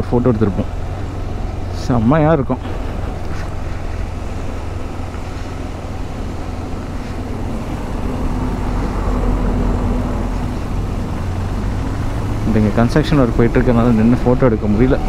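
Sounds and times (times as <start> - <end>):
road and wind rumble: 0.0 - 15.0.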